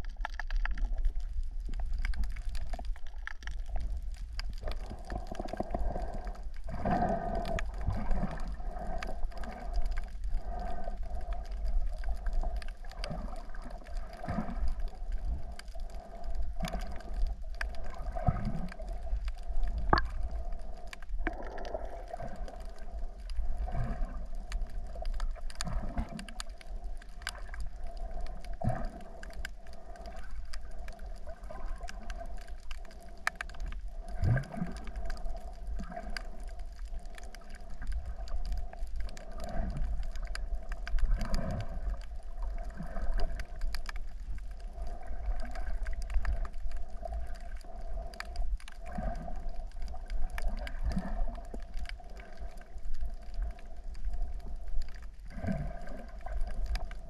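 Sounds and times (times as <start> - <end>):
low underwater rumble and hum: 0.0 - 57.0
sharp clicks and crackles: 0.0 - 57.0.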